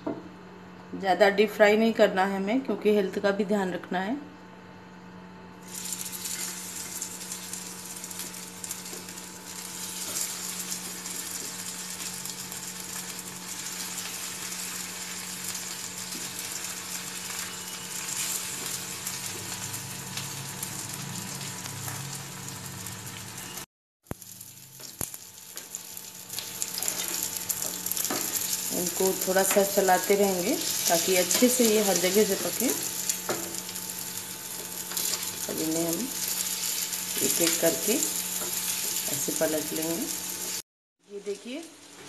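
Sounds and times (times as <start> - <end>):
patties sizzling in hot oil: 5.6 - 42.0.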